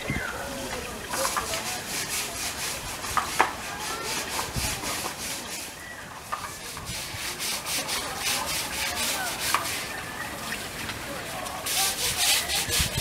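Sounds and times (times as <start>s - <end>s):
rapid scraping strokes: 1.1s - 10.1s, 11.4s - 13.0s.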